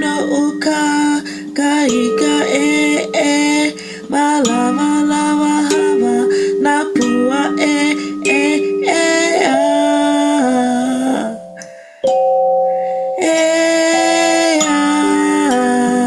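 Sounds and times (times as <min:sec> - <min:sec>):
person singing long sliding notes: 0:00.0 - 0:12.0, 0:12.9 - 0:16.0
kalimba: 0:00.0 - 0:16.0.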